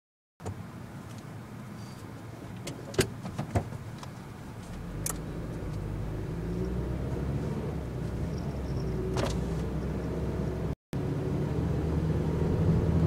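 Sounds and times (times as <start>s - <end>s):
van engine rumble: 0.4s - 13.0s.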